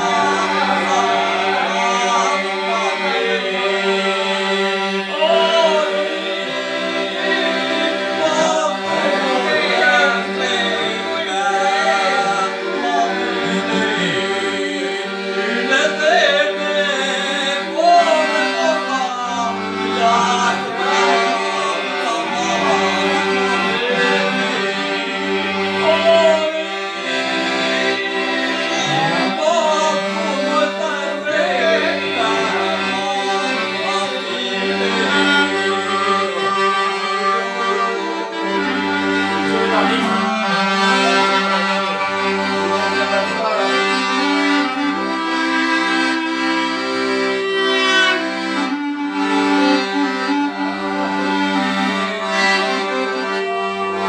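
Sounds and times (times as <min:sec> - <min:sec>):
man singing: 0:00.0 - 0:45.6, 0:47.3 - 0:54.0
accordion chords: 0:00.0 - 0:54.0.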